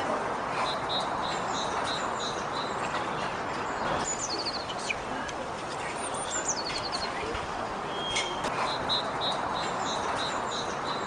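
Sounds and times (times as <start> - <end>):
songbird singing: 0.6 - 11.0.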